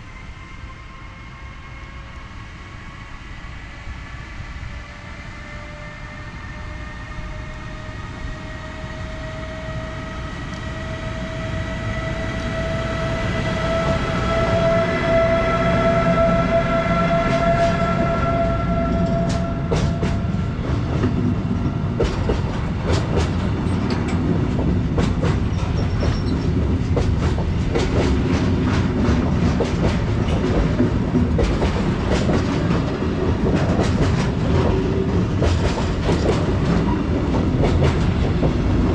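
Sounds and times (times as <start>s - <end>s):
locomotive whine: 0.0s - 38.9s
low train rumble: 0.0s - 38.9s.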